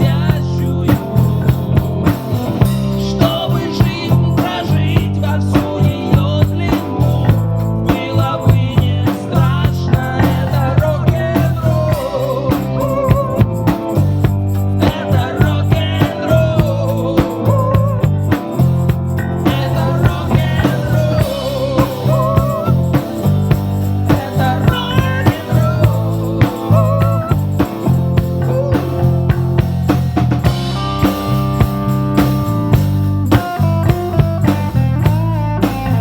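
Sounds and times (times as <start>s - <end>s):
bass line: 0.0s - 36.0s
drum beat: 0.0s - 36.0s
rock music: 0.0s - 36.0s.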